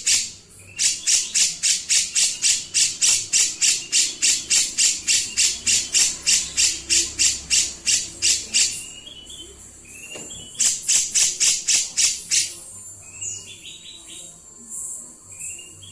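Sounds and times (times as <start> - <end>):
bird rasping chatter: 0.0 - 14.2
whistled bird notes: 0.0 - 15.9.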